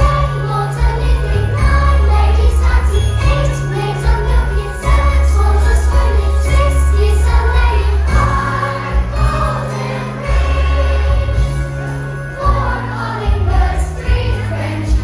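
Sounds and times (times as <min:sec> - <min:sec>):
music with bass line: 0:00.0 - 0:15.0.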